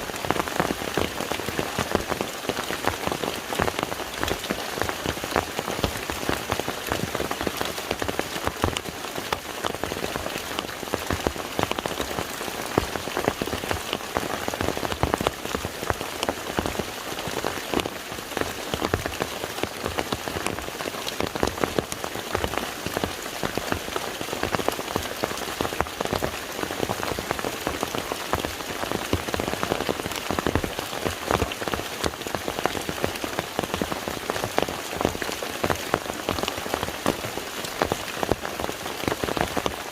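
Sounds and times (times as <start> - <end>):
rain falling on water: 0.0 - 39.9.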